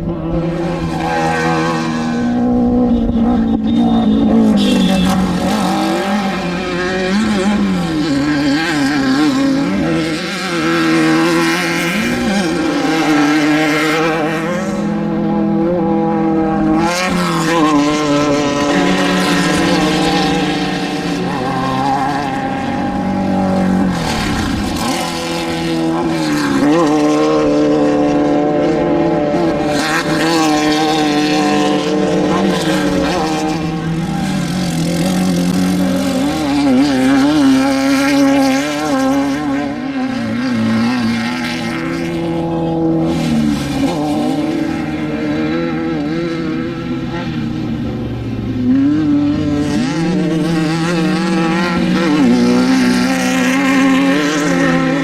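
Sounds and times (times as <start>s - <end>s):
off-road vehicle engines revving: 0.0s - 55.0s.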